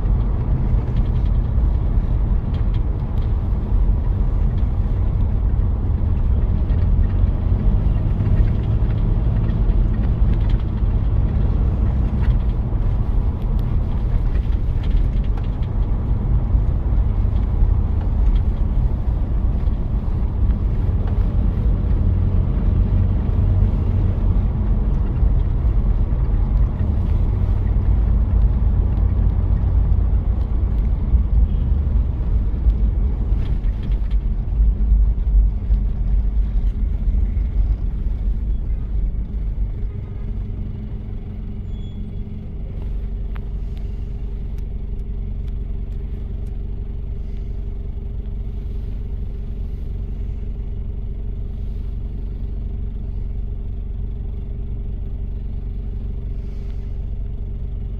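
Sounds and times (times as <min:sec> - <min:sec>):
diesel engine rumbling: 0:00.0 - 0:57.9.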